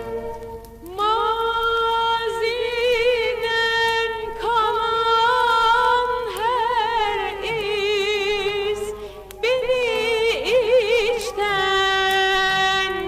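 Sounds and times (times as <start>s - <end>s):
person singing ornamented notes: 0.0s - 13.0s.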